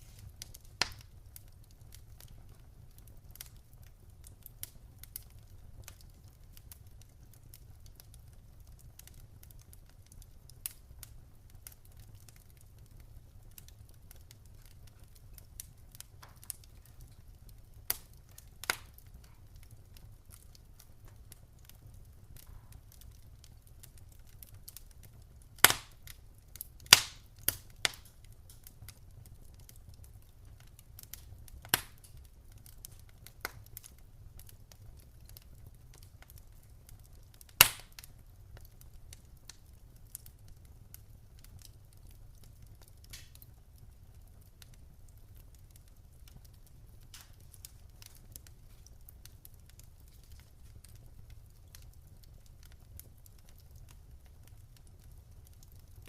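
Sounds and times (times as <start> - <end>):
sharp pops from burning logs: 0.0 - 56.0
wood fire crackling: 0.0 - 56.0.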